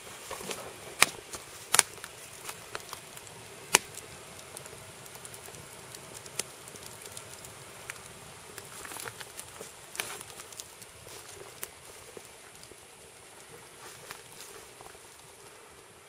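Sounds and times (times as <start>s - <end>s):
wood fire crackling: 0.0s - 16.0s
sharp fire pops: 0.2s - 15.3s.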